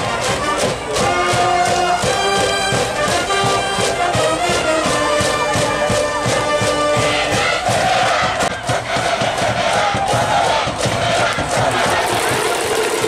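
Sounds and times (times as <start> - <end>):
steady drum beat: 0.0 - 13.0
trumpets and trombones: 0.0 - 13.0.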